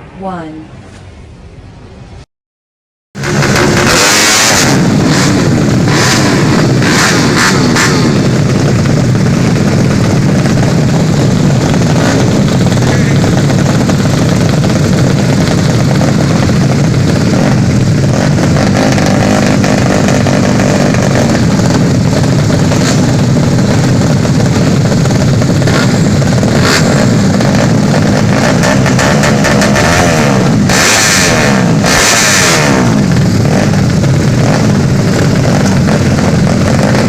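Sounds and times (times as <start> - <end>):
motorcycle engine: 3.2 - 37.0.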